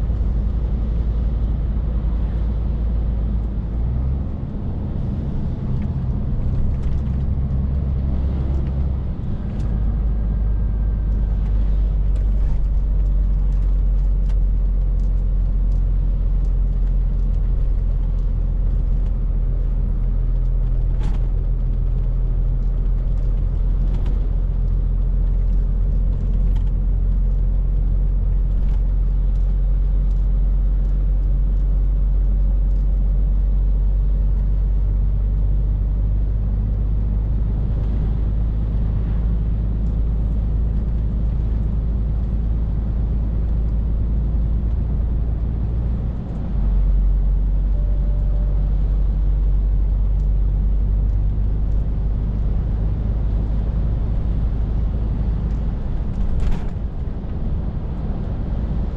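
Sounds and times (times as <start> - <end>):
lorry diesel engine cruising: 0.0 - 58.9
road rumble: 0.0 - 58.9.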